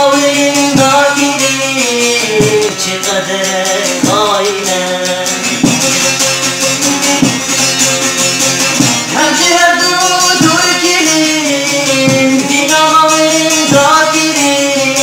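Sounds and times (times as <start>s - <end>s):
long-necked lute strummed: 0.0s - 15.0s
man singing folk style: 0.0s - 15.0s.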